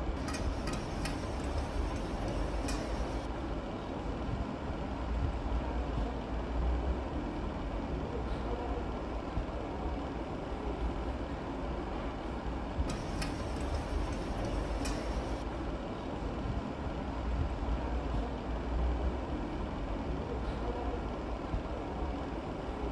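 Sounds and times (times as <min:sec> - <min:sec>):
low background rumble: 0:00.0 - 0:22.9.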